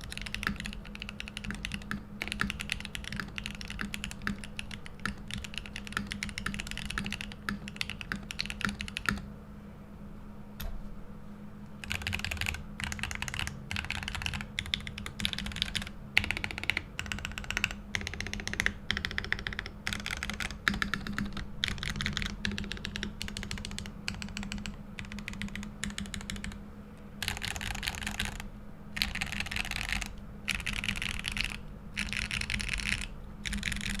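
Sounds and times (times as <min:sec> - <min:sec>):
mechanical keyboard typing: 0:00.0 - 0:09.2, 0:11.8 - 0:26.6, 0:27.2 - 0:28.4, 0:29.0 - 0:34.0.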